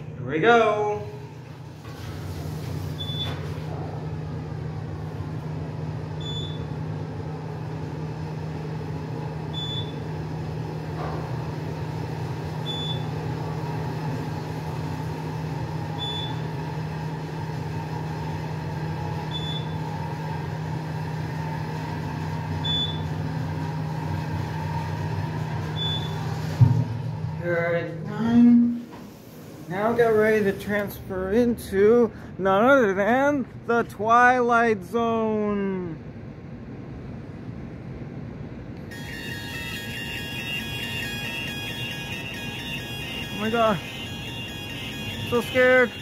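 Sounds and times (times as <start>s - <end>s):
elevator hum and ride noise: 0.0s - 46.0s.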